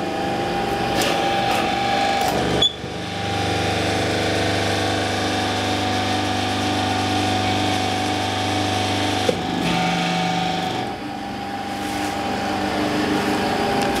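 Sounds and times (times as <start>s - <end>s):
press machine humming: 0.0s - 14.0s.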